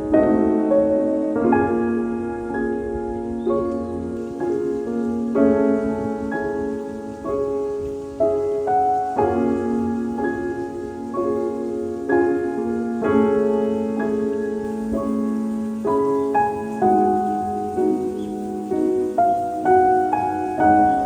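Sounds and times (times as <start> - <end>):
gentle piano notes: 0.0 - 21.0.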